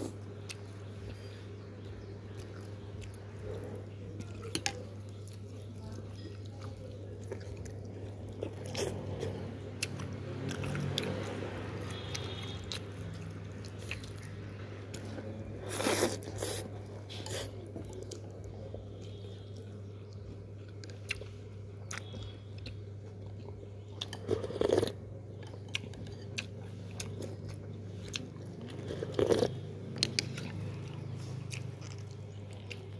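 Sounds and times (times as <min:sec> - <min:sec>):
person chewing: 0:00.0 - 0:32.9
steady low hum: 0:00.0 - 0:32.9.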